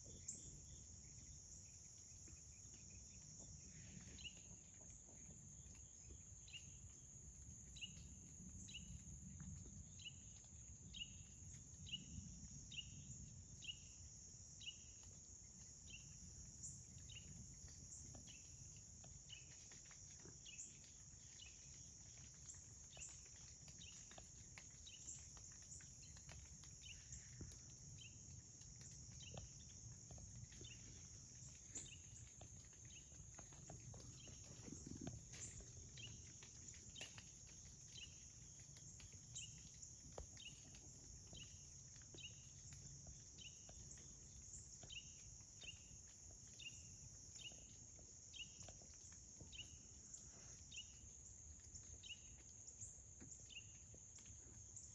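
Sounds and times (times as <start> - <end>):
insect chirp: 0.0 - 54.9.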